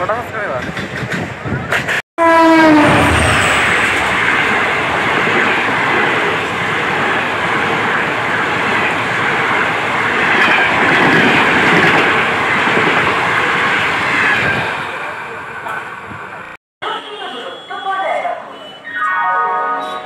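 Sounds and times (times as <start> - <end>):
train coaches passing at speed: 0.0 - 20.0.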